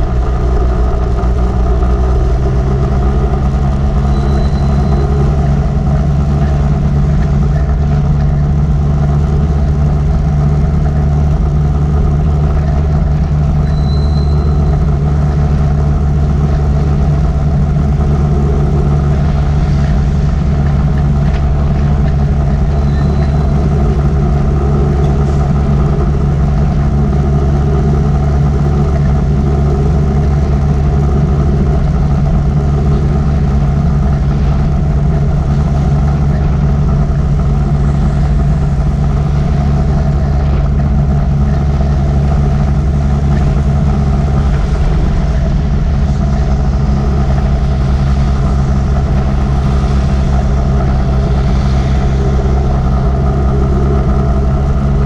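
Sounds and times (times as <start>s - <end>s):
motorbike engine running: 0.0s - 55.0s
road noise: 0.0s - 55.0s
wind noise: 0.0s - 55.0s.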